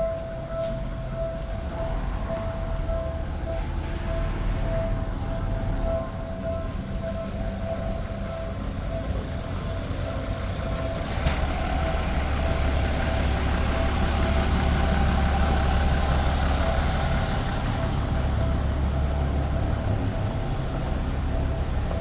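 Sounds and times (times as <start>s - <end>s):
bus diesel engine hum: 0.0s - 22.0s
street traffic: 0.0s - 22.0s.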